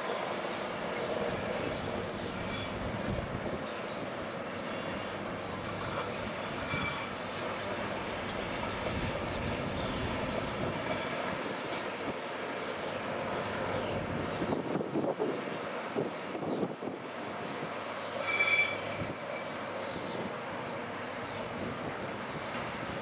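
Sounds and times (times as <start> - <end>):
diesel locomotives running: 0.0 - 23.0.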